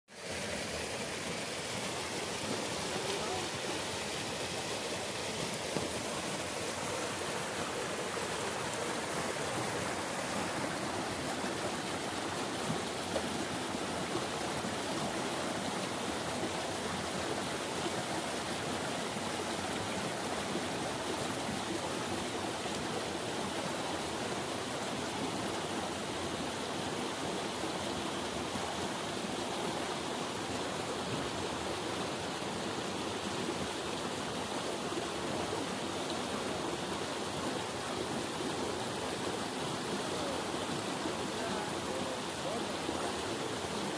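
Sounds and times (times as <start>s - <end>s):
stream rushing over stones: 0.1s - 43.9s.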